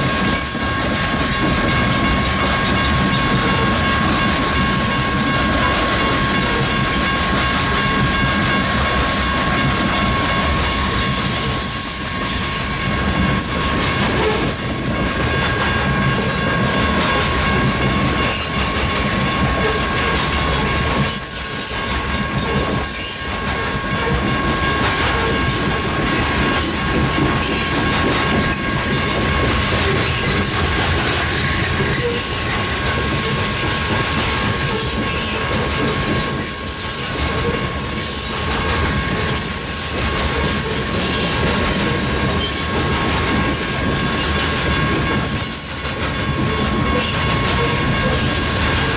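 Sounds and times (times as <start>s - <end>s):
train wheels clattering over rail: 0.0s - 48.9s.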